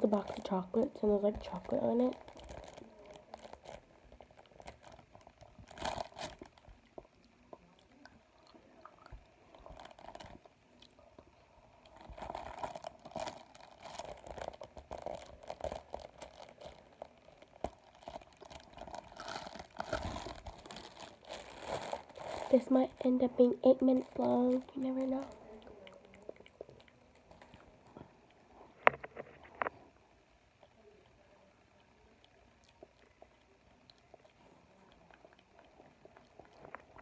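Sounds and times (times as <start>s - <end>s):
chewing paper crunching: 0.0s - 29.9s, 30.5s - 37.0s.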